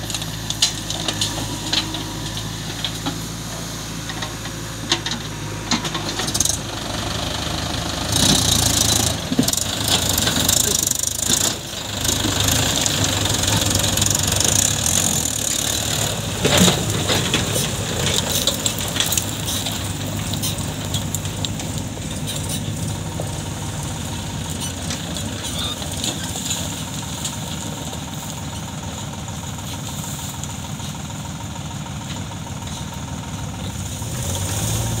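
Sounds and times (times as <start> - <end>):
diesel tractor engine idling: 0.0 - 35.0.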